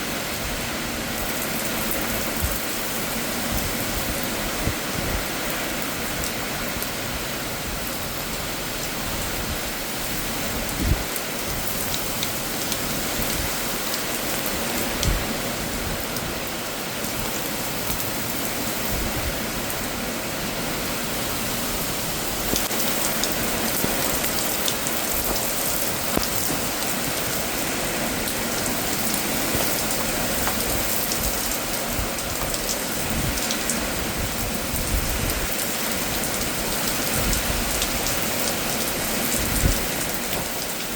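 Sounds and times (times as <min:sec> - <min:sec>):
heavy rain splashing: 0:00.0 - 0:40.9.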